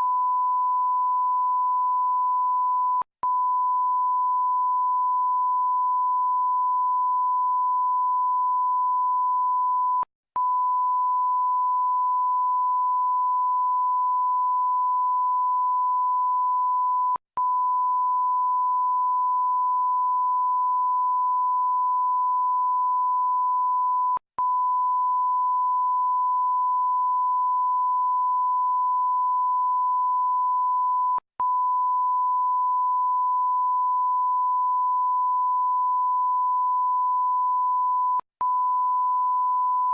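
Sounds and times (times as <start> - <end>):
censor bleep sine tone: 0.0 - 39.9.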